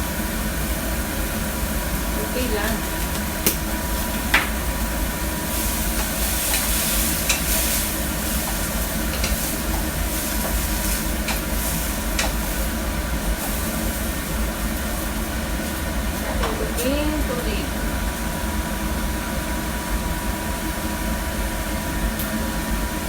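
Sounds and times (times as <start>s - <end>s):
steady low hum: 0.0s - 23.0s
vegetables sizzling in a pan: 0.0s - 23.0s.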